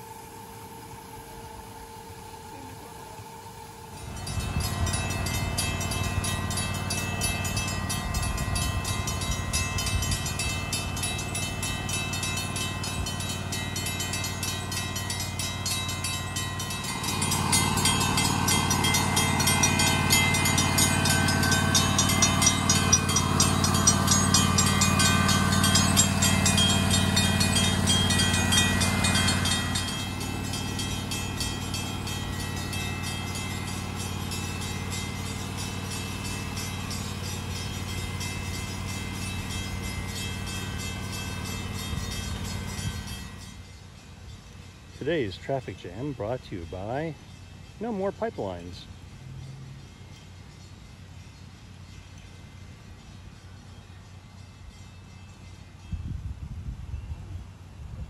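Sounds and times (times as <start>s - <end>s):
miniature train running: 0.0s - 58.0s.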